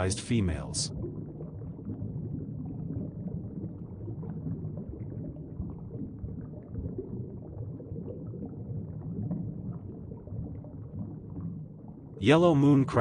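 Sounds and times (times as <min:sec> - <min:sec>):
bubbling underwater rumble: 0:00.0 - 0:13.0.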